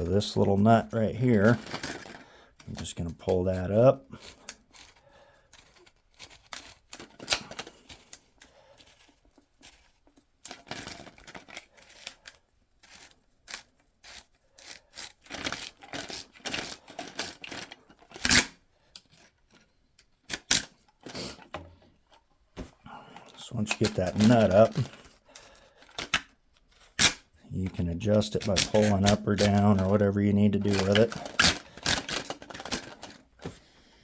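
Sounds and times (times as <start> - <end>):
plastic parts clicking and rattling: 0.0 - 33.7.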